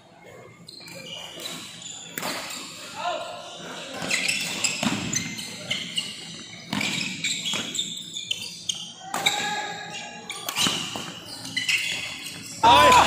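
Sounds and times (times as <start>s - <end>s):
shoe squeaks: 0.3s - 13.0s.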